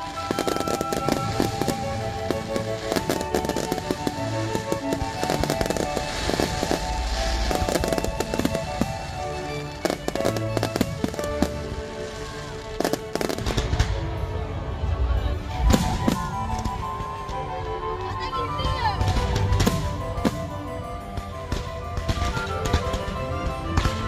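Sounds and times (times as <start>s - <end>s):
fireworks bursting: 0.0s - 14.3s, 15.4s - 17.8s, 18.6s - 24.0s
music playing: 0.0s - 24.0s.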